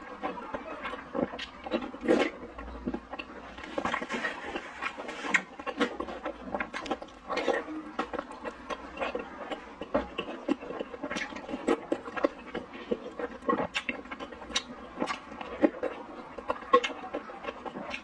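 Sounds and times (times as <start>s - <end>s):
person chewing with wet smacks: 0.0s - 18.0s.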